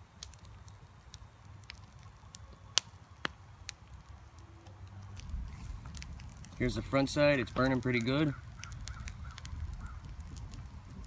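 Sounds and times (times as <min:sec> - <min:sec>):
low fire rumble: 0:00.0 - 0:11.0
wood fire crackling and popping: 0:00.0 - 0:11.0.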